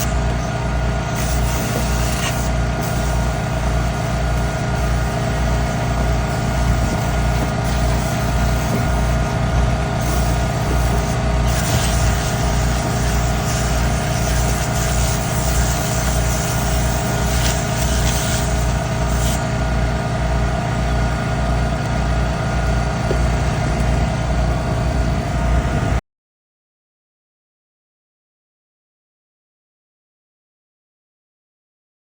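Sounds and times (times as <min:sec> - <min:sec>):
motor running with low pulsing: 0:00.0 - 0:26.0.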